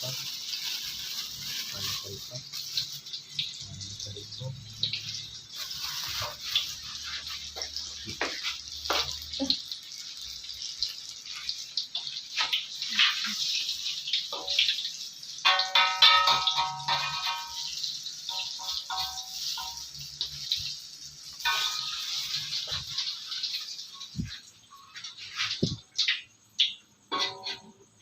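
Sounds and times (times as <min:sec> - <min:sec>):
food deep-frying in hot oil: 0:00.0 - 0:28.0
oil popping and crackling: 0:00.0 - 0:28.0.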